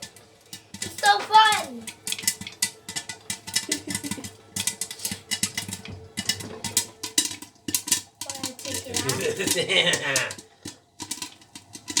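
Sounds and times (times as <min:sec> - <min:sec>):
popcorn popping in oil: 0:00.0 - 0:12.0.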